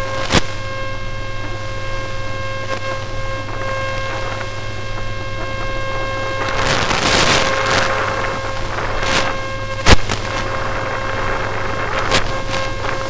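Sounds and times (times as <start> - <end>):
steady buzzing hum: 0.0 - 13.0.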